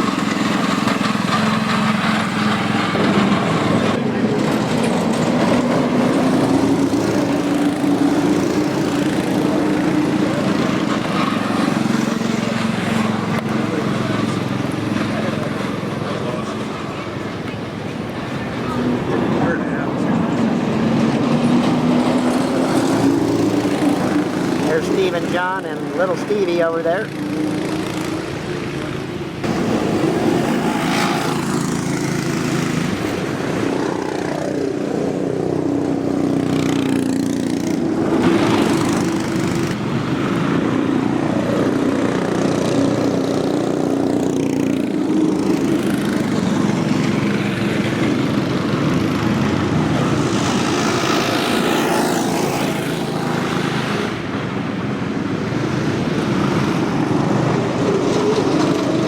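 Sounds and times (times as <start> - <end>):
small kart engines racing: 0.0 - 59.0.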